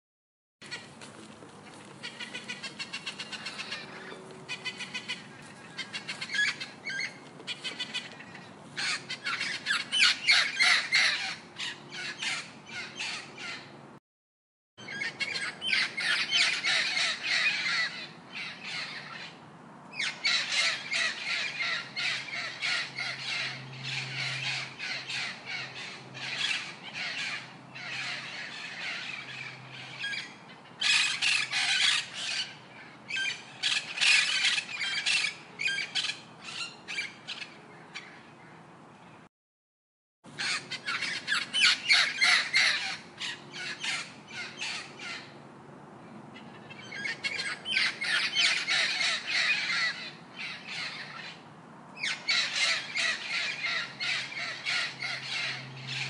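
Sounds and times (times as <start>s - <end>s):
parrots squawking: 2.0s - 13.7s, 14.8s - 38.2s, 40.4s - 45.3s, 46.4s - 51.4s, 52.0s - 56.0s.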